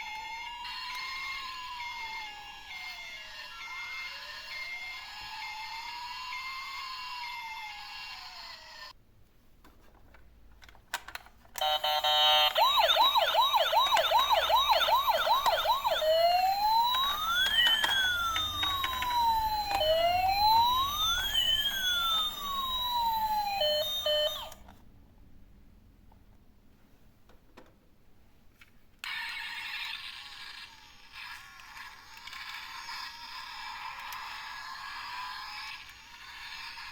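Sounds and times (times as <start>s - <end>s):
toy electronic siren: 0.0s - 8.9s, 11.6s - 24.6s, 29.1s - 36.9s.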